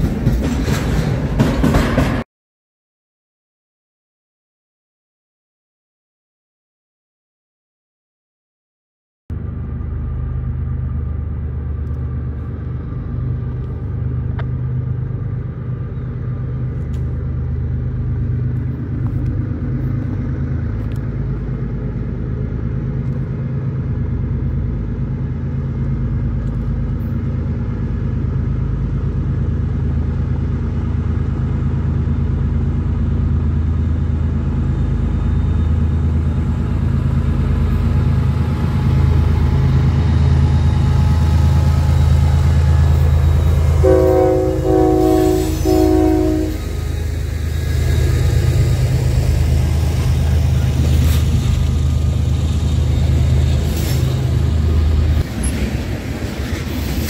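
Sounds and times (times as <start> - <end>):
diesel locomotive engine running: 0.0 - 2.2, 9.3 - 57.0.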